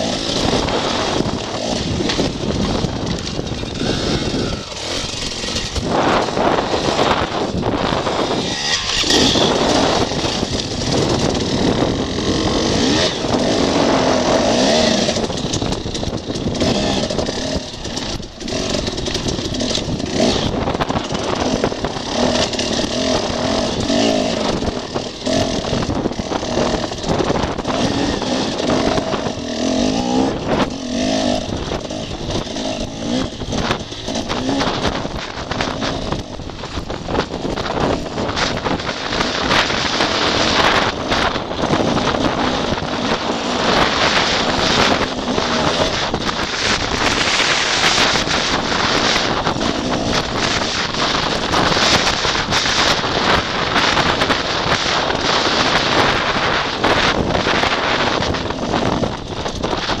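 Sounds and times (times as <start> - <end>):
dirt bike engine revving: 0.0 - 60.0
wind on microphone: 0.0 - 60.0.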